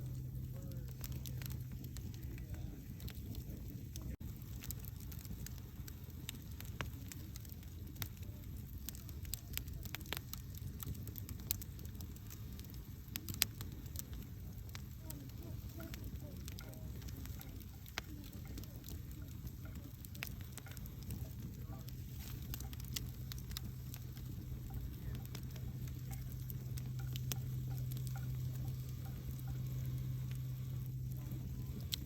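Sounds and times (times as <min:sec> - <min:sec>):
campfire crackling and popping: 0:00.0 - 0:32.0
low rumble: 0:00.0 - 0:32.0.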